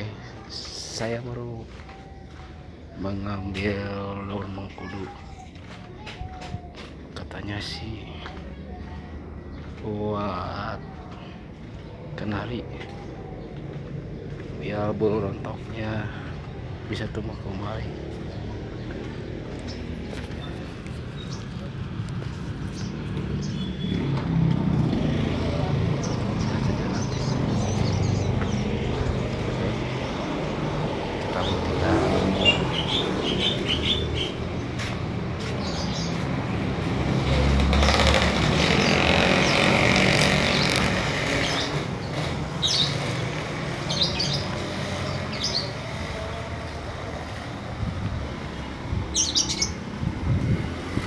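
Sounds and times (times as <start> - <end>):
birds chirping: 0.0 - 51.0
road traffic noise: 0.0 - 51.0
vehicle passing: 6.8 - 51.0.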